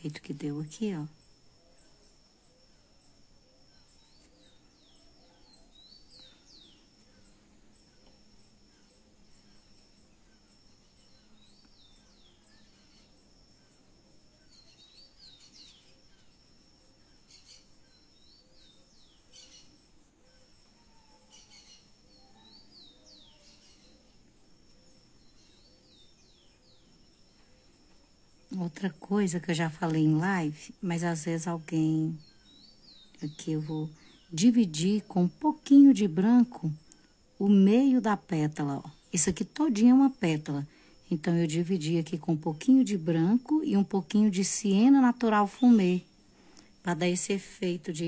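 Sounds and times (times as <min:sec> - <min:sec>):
songbird chirping: 0:00.0 - 0:48.0.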